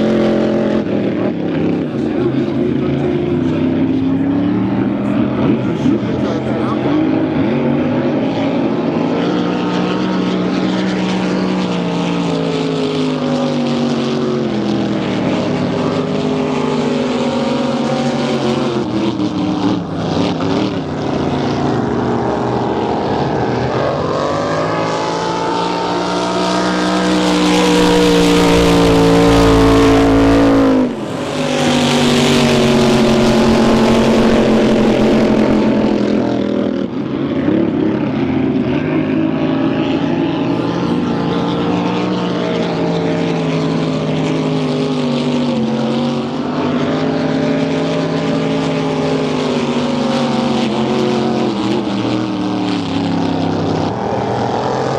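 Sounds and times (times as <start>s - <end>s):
racing boat engines: 0.0s - 54.9s.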